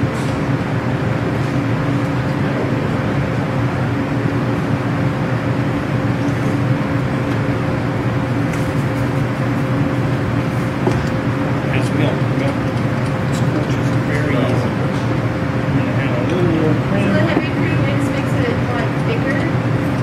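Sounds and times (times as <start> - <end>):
mechanical hum and hiss: 0.0 - 20.0.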